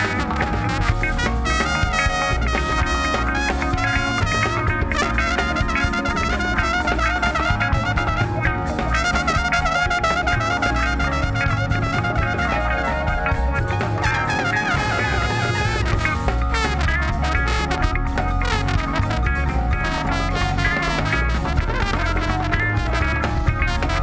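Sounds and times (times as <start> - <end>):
jazz band with trumpet and trombone: 0.0 - 24.0
steady drum beat: 0.0 - 24.0.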